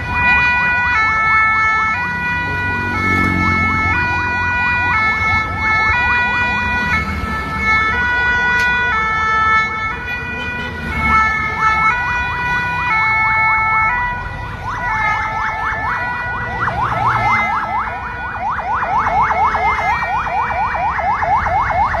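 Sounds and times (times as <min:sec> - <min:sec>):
fire truck siren two-tone wail: 0:00.0 - 0:22.0
rapid rising siren yelp: 0:00.0 - 0:22.0.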